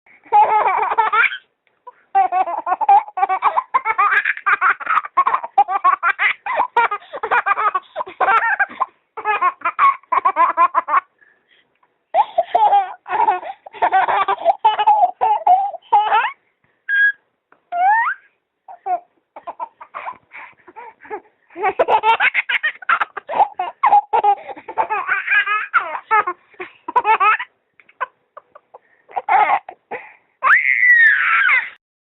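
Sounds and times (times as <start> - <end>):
baby giggling: 0.3 - 11.1, 12.1 - 29.8.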